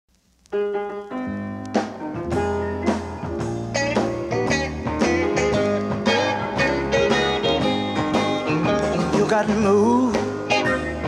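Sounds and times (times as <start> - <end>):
instrumental gospel music: 0.5 - 11.0.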